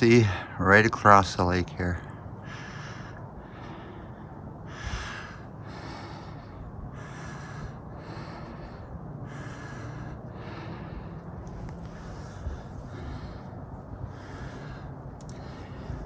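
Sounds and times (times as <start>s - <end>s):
man breathing hard: 2.0s - 16.0s.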